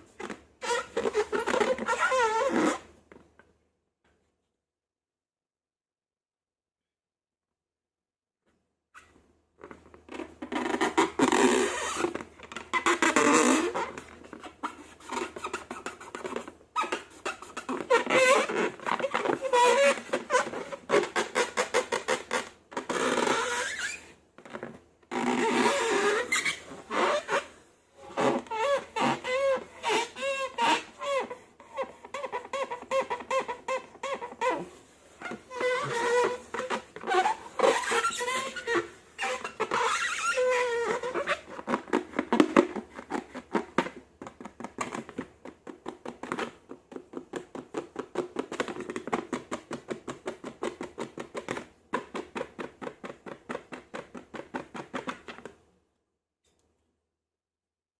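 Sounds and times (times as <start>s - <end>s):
rubber balloon squeaks: 0.0s - 3.0s, 9.0s - 55.6s.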